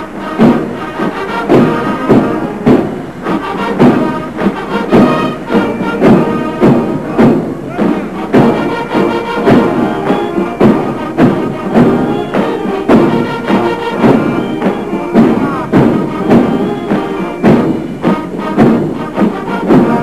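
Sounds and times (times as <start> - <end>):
brass band playing a march: 0.0 - 20.0
bass drum beat: 1.4 - 20.0.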